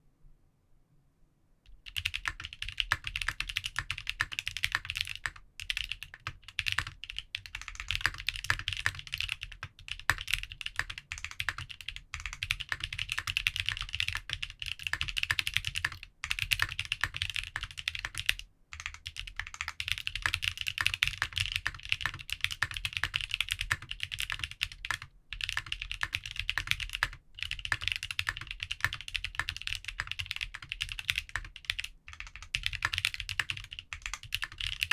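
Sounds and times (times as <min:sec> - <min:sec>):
mechanical keyboard typing clicks: 0:01.9 - 0:34.9.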